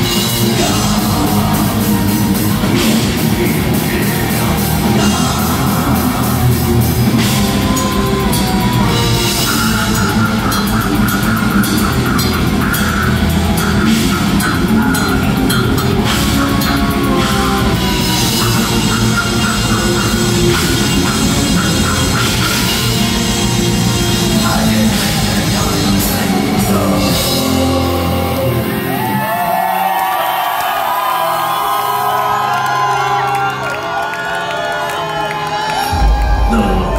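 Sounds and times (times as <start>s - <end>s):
live metal band playing: 0.0s - 30.2s, 31.0s - 36.9s
crowd whooping and cheering: 0.0s - 36.9s.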